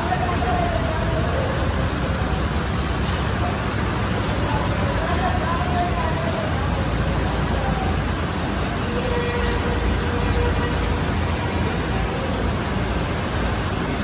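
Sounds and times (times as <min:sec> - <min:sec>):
diesel engines rumbling: 0:00.0 - 0:14.0.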